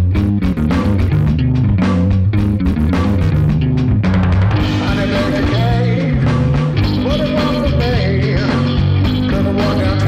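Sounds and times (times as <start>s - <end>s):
bass line: 0.0s - 10.0s
electric guitar picked: 0.0s - 10.0s.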